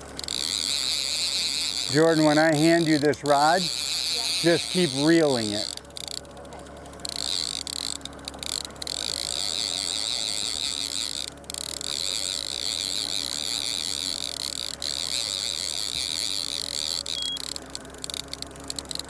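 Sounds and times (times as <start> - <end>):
fishing reel whirring ratchet: 0.0 - 19.0.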